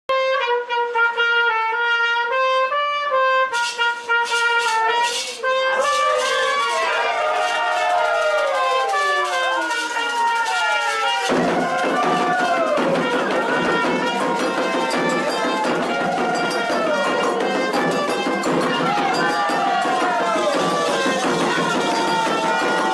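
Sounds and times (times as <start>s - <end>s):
bugle call: 3.5s - 22.9s.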